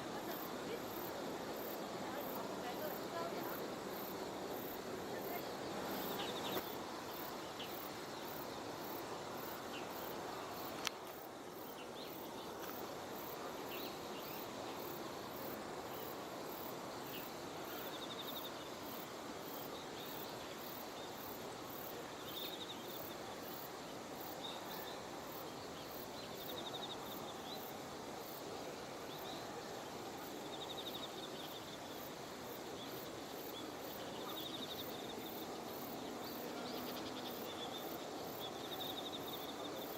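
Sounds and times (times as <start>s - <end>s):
background hiss: 0.0s - 39.9s
insects chirping: 0.0s - 39.9s.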